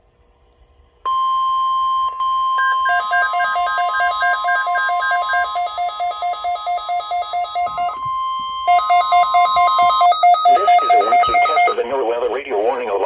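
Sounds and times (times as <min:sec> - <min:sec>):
steady alarm tone: 0:01.1 - 0:12.2
fast pulsing alert beeps: 0:01.2 - 0:12.2.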